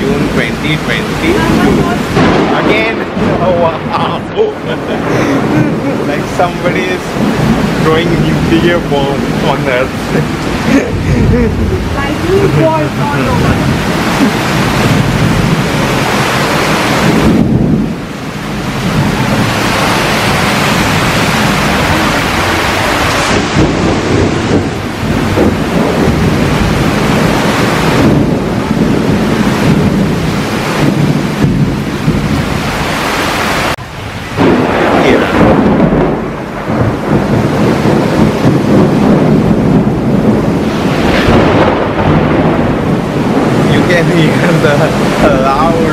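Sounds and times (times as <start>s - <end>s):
low thunder rumbling: 0.0s - 45.9s
very heavy rain pouring: 0.0s - 45.9s.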